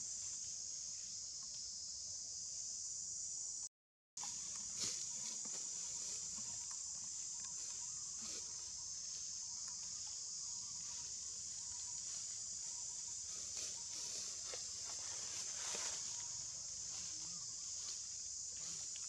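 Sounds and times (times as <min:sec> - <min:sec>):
insect chorus droning: 0:00.0 - 0:19.0.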